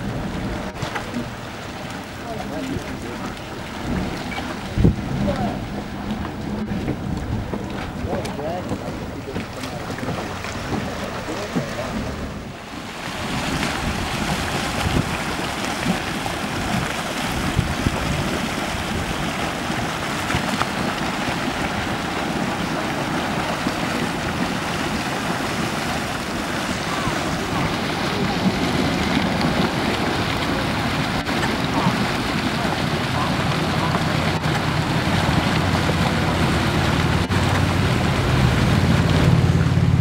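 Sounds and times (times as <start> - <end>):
churning water and venting steam: 0.0 - 40.0
wind on microphone: 0.0 - 40.0.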